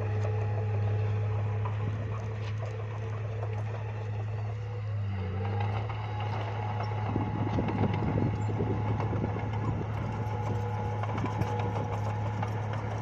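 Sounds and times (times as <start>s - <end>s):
bulldozer engine running: 0.0s - 13.0s.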